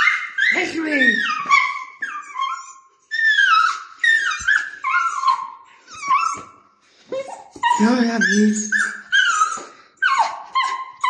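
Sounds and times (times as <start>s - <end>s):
small dog whining and yelping: 0.0s - 11.0s.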